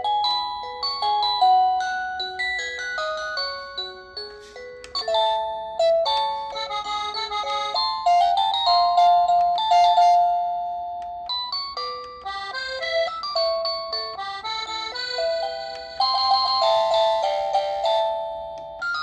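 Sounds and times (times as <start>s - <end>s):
doorbell chime melodies: 0.0s - 19.0s.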